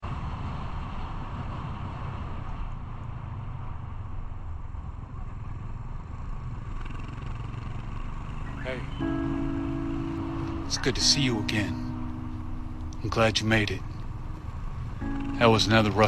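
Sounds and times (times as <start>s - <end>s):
road and wind noise: 0.0s - 10.7s, 12.0s - 15.1s.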